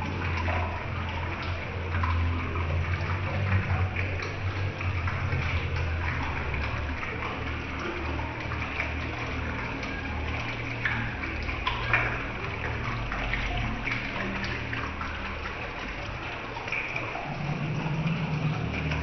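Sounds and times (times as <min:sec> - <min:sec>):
dripping water clicks: 0:00.0 - 0:19.0
low hum: 0:00.0 - 0:19.0
small waterfall splashing: 0:00.0 - 0:19.0.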